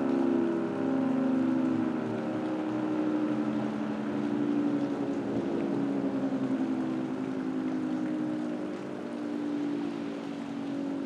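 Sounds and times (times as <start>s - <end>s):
warning siren steady blast: 0.0s - 11.0s.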